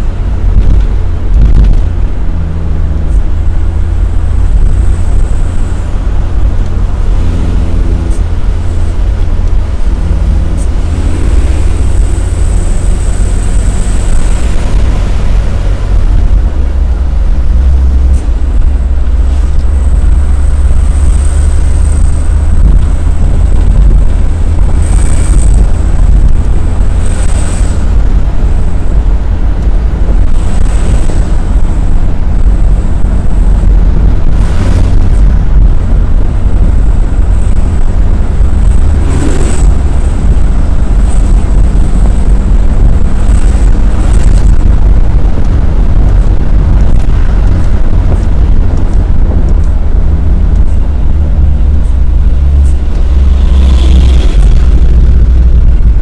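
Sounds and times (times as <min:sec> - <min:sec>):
wind and road noise rumble: 0:00.0 - 0:56.0.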